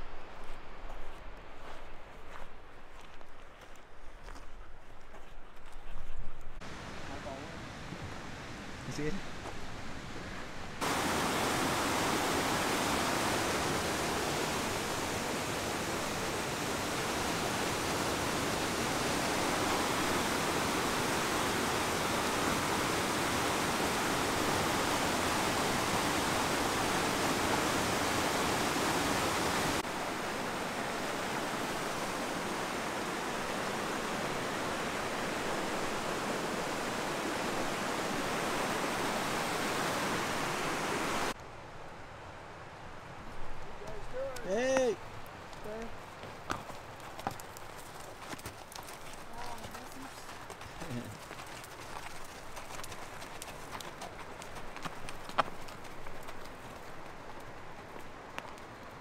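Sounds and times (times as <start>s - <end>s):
creek rushing over boulders: 6.6s - 41.4s, 43.0s - 59.0s.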